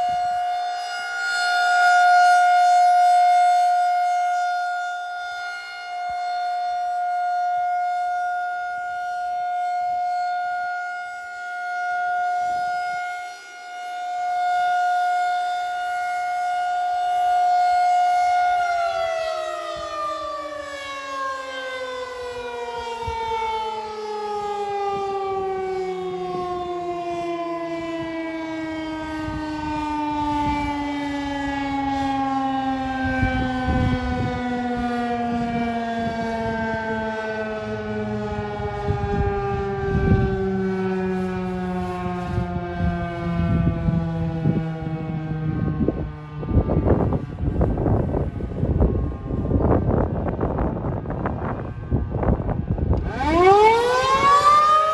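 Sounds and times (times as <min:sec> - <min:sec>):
rotating warning siren: 0:00.0 - 0:54.9.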